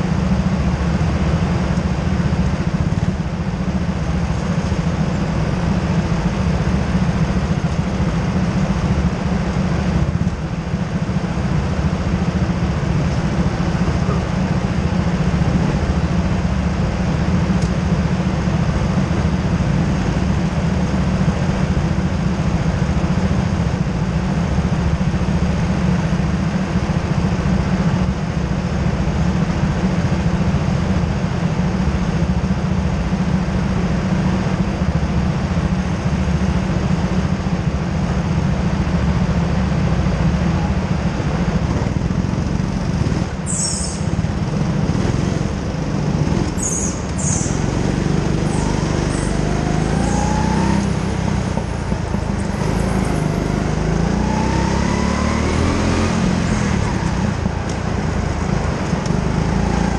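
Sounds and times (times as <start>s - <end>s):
go-kart engines idling: 0.0s - 59.9s.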